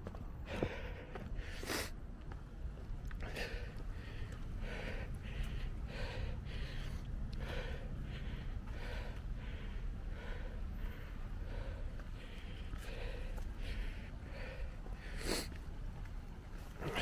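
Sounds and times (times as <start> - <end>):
runner heavy breathing: 0.0 - 17.0
steady low rumble: 0.0 - 17.0.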